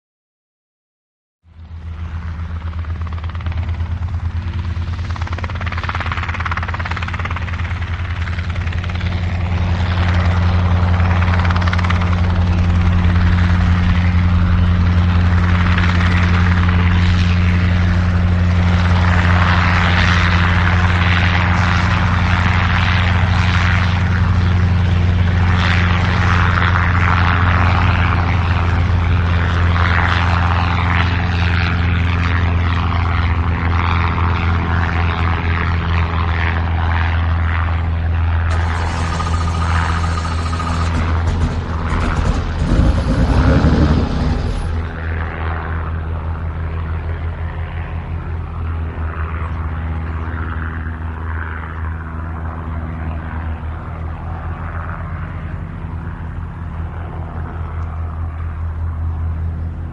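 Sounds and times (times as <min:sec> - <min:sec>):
helicopter engine rushing: 0:01.5 - 0:59.9
helicopter rotor chopping: 0:01.5 - 0:59.9.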